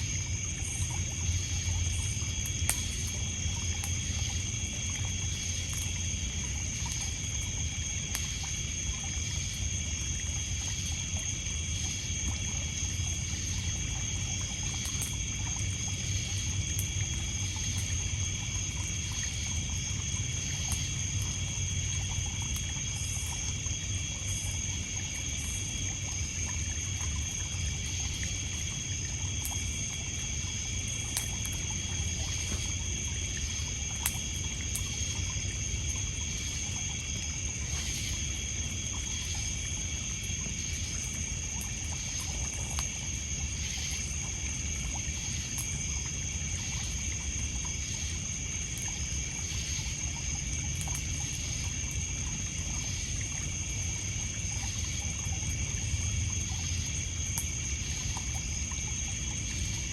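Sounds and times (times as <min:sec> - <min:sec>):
crickets and insects chirping: 0:00.0 - 0:59.9
water lapping on pebbles: 0:00.0 - 0:59.9.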